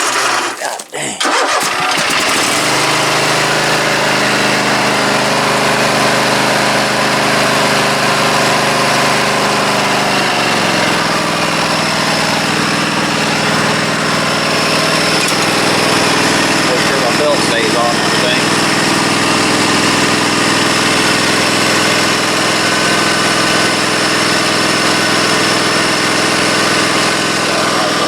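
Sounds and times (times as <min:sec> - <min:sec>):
mower engine running: 0:00.0 - 0:28.0.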